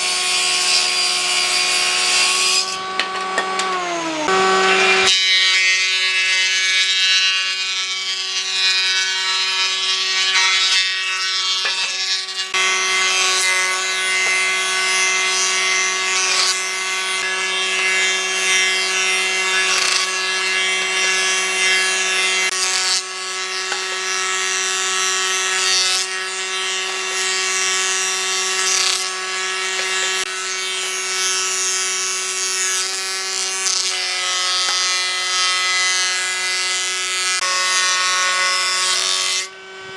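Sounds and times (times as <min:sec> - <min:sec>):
power tool working wood: 0:00.0 - 0:39.9.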